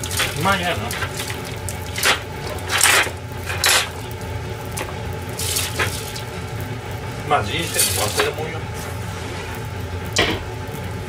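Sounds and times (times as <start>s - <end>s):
hissing spatters: 0.0s - 9.7s
sandwiches frying in butter: 0.0s - 11.0s
steady low hum: 0.0s - 11.0s.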